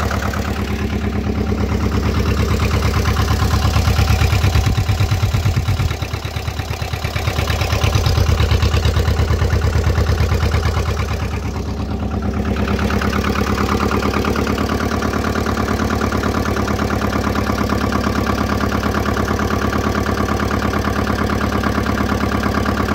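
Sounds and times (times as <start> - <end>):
tractor diesel engine idling: 0.0 - 22.9.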